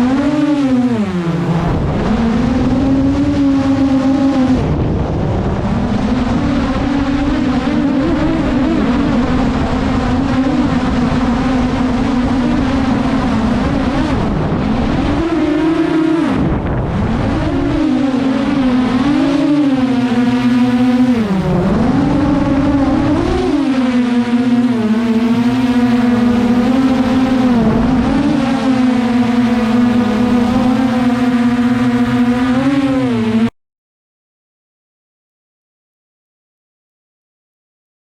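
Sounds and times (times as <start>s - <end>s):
drone propellers whining: 0.0s - 33.5s.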